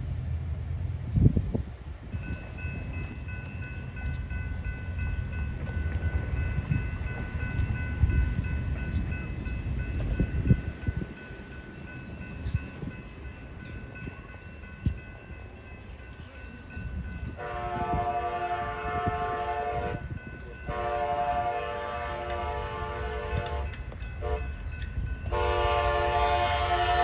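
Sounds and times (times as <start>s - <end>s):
passenger train rumbling: 0.0s - 27.0s.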